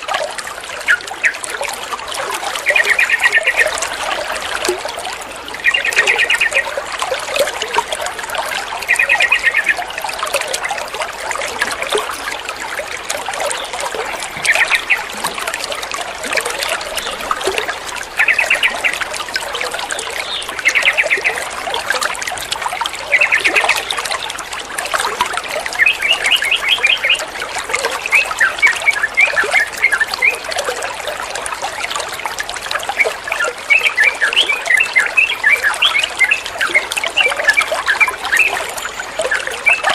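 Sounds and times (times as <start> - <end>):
trickle of flowing water: 0.0 - 39.9.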